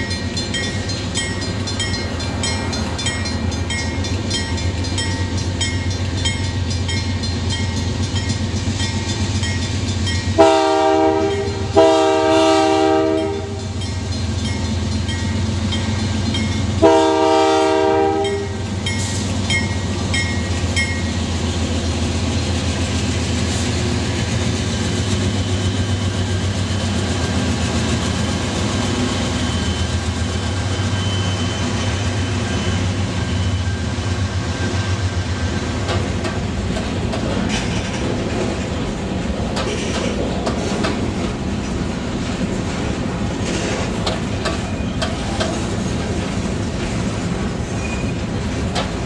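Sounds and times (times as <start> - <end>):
clickety-clack over rail joints: 0.0 - 33.8, 34.6 - 49.0
diesel locomotive engine: 0.0 - 49.0
train wheel noise: 0.0 - 49.0.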